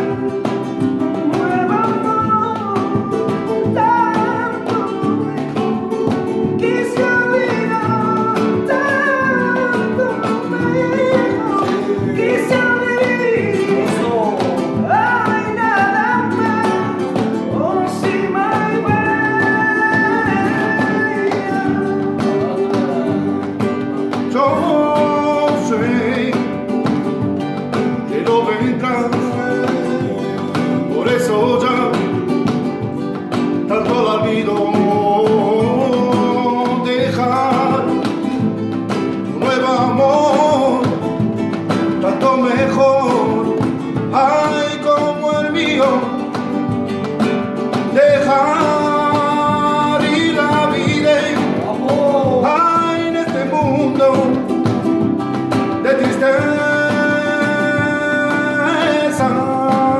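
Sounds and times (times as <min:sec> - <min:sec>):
acoustic guitars strummed and plucked: 0:00.0 - 0:59.9.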